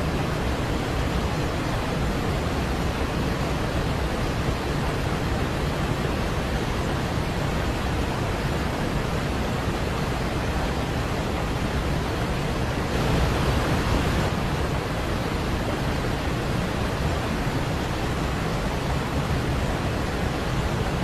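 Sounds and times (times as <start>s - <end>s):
steady pink noise hiss: 0.0s - 21.0s.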